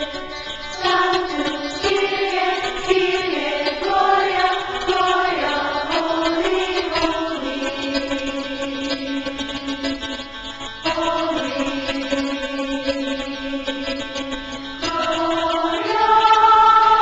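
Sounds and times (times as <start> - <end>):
slow chant-like singing: 0.8 - 9.8, 10.8 - 17.0.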